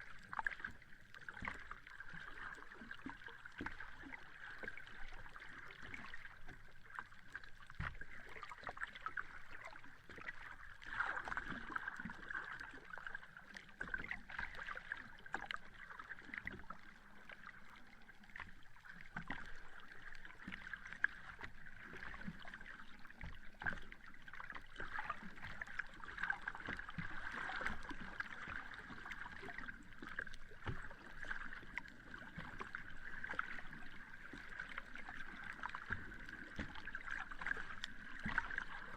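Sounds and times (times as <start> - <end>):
sea water lapping on beach: 0.0 - 38.9.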